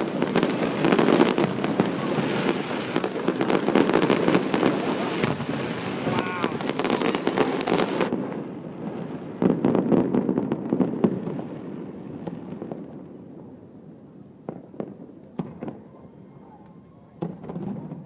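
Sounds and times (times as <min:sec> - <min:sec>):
sharp fireworks cracks: 0:00.0 - 0:15.9, 0:16.6 - 0:18.0
fireworks bangs and crackles: 0:00.0 - 0:18.0
fireworks rumble: 0:00.0 - 0:18.0.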